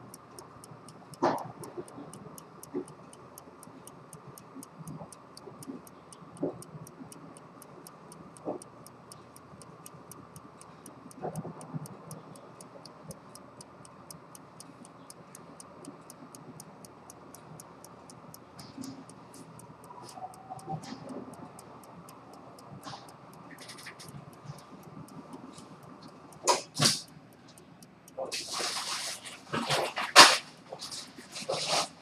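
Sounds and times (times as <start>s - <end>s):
pocket watch ticking: 0.0s - 29.0s.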